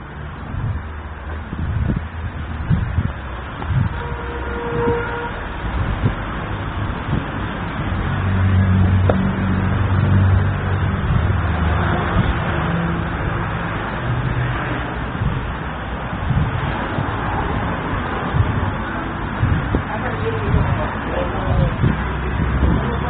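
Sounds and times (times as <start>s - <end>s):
street traffic noise: 0.0s - 23.0s
vehicle engine hum: 0.0s - 23.0s.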